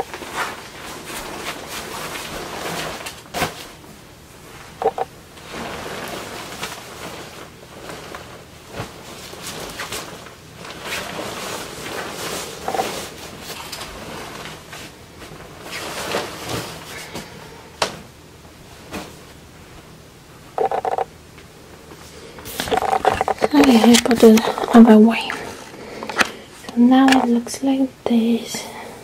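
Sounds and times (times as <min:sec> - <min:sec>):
comforter and pillows rustling: 0:00.0 - 0:20.5, 0:21.6 - 0:29.0.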